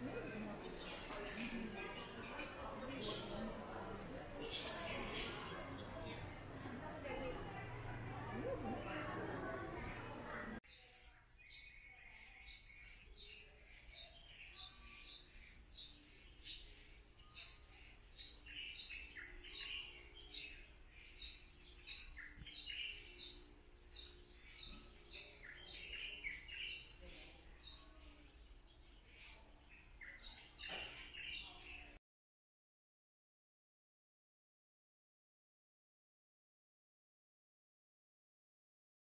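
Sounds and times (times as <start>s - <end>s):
birds chirping faintly: 0.0s - 32.0s.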